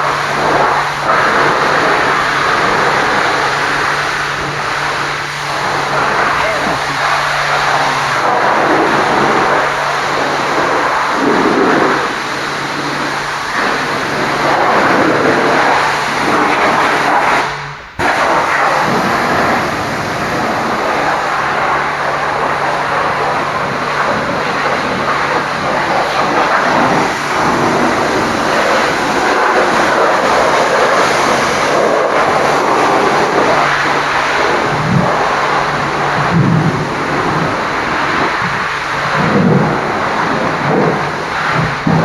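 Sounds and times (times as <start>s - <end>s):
low even hum: 0.0s - 42.0s
water jet spraying: 0.0s - 42.0s.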